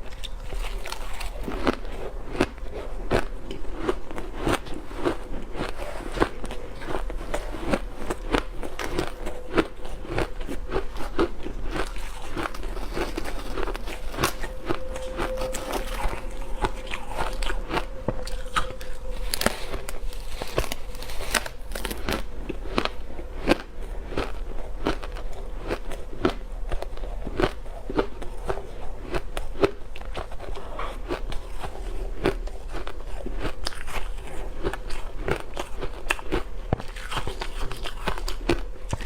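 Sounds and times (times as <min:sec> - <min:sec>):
ice being chewed: 0:00.0 - 0:39.0.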